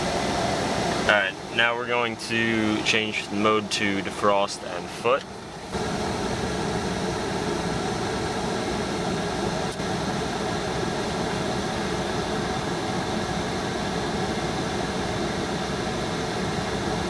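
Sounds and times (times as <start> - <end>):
blower fan air rush: 0.0 - 17.0.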